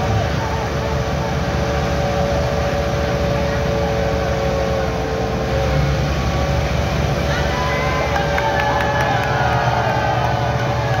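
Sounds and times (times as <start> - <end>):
tractor diesel engine straining: 0.0 - 11.0.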